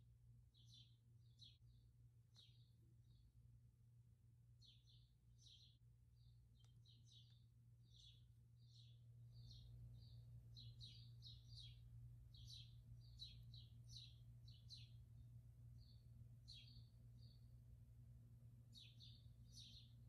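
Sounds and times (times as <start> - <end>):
steady low hum: 0.0 - 20.0
small bird chirping: 0.5 - 3.3, 4.6 - 17.7, 18.6 - 20.0.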